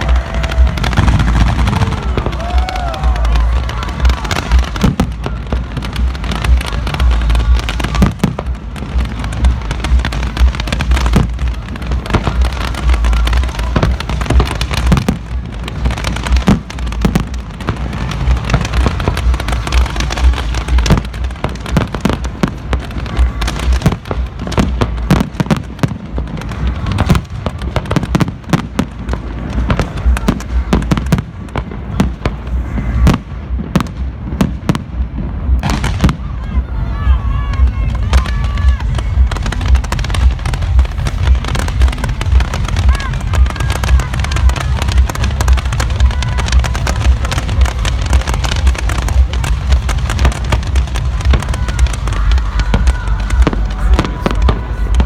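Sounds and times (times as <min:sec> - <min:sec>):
deep fireworks booms: 0:00.0 - 0:55.0
firework whistling: 0:00.0 - 0:55.0
fireworks bangs and crackles: 0:00.0 - 0:55.0.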